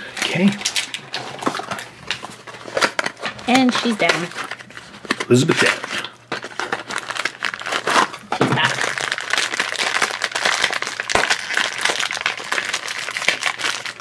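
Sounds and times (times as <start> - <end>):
plastic wrapper crinkling: 0.1 - 14.0.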